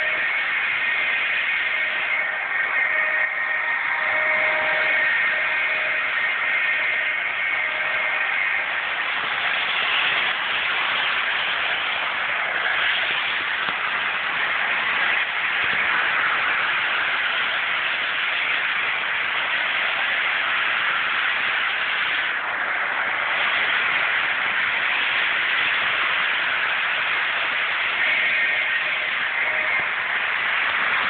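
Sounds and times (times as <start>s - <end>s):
model train whirring: 0.0s - 31.0s.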